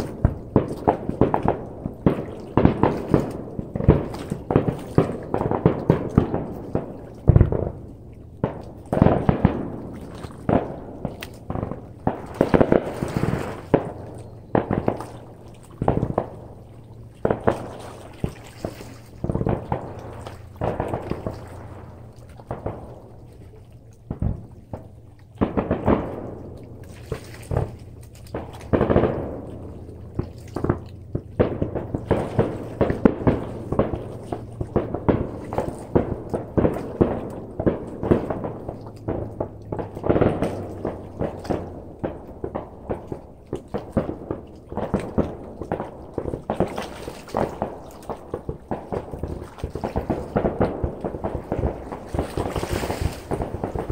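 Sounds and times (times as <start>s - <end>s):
fireworks bangs: 0.0s - 53.9s
fireworks crackle and rumble: 0.0s - 53.9s.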